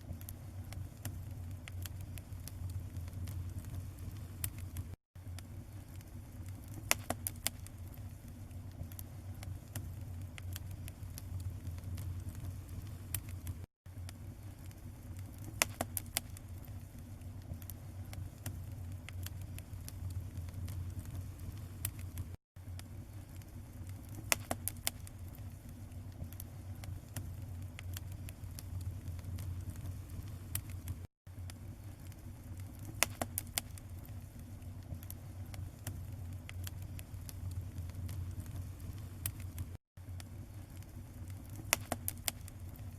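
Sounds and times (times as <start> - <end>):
low steady rumble: 0.0 - 42.9
small fire crackling and popping: 0.0 - 42.9.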